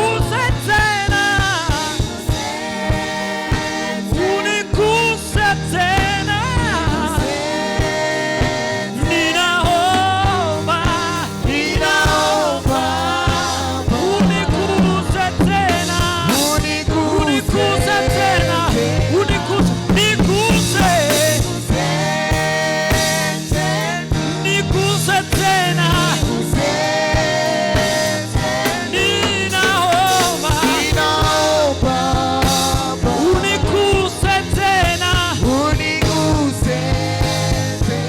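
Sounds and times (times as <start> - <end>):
bass line: 0.0 - 38.0
drum beat: 0.0 - 38.0
gospel singing: 0.0 - 38.0.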